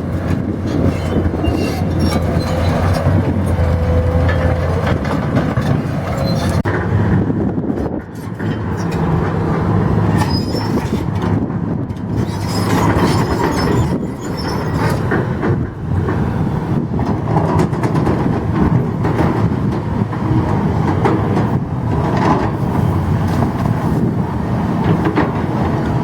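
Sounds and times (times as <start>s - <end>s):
heavy machinery engine drone: 0.0s - 26.0s.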